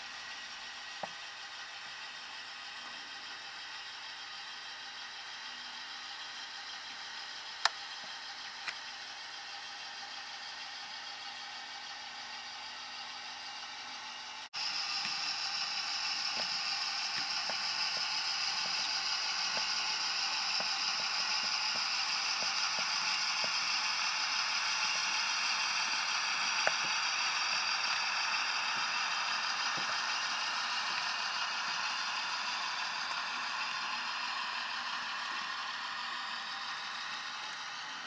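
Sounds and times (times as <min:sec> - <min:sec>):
model train motor whirring: 0:00.0 - 0:38.0.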